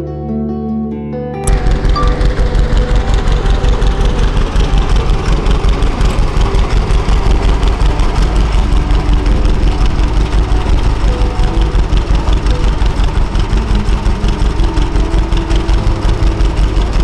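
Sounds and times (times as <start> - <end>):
tractor engine pulsing: 1.4 - 17.0.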